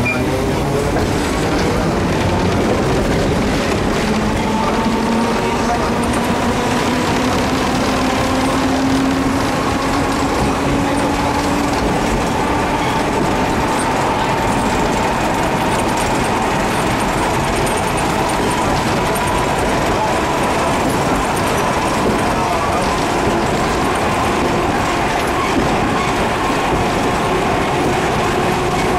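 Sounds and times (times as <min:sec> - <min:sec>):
streetcar motor whine: 0:00.0 - 0:28.9
wheels running on rails: 0:00.0 - 0:28.9.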